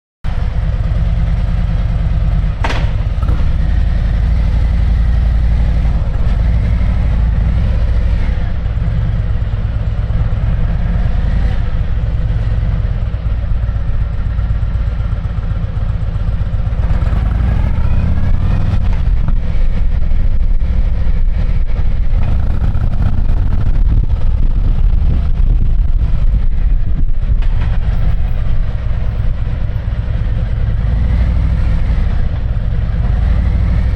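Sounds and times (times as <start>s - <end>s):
motorcycle engine revving: 0.3s - 33.9s.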